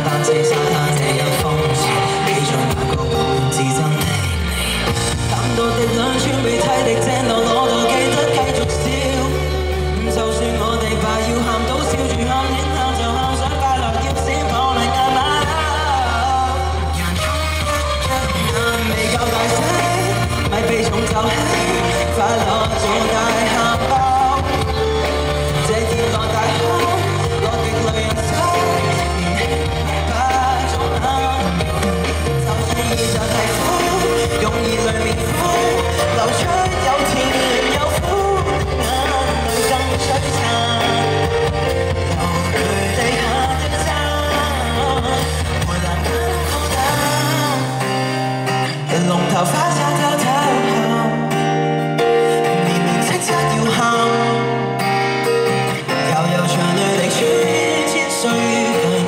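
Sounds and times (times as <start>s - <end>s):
acoustic guitar: 0.0s - 59.0s
instrumental backing with bass line: 0.0s - 59.0s
man singing into a microphone: 0.0s - 59.0s.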